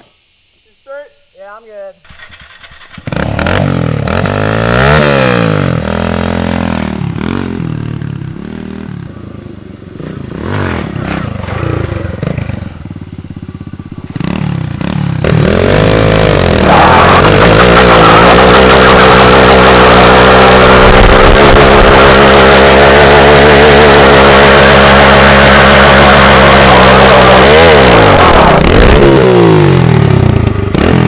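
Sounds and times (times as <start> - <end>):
dirt bike engines revving: 1.4 - 31.0.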